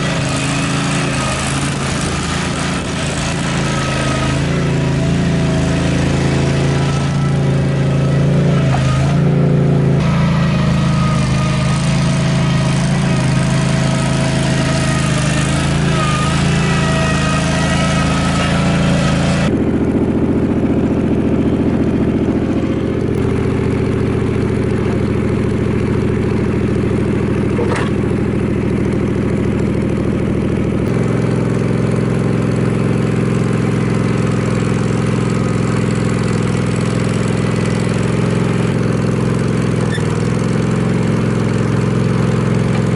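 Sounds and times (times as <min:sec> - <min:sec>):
loader engine running under load: 0:00.0 - 0:42.9.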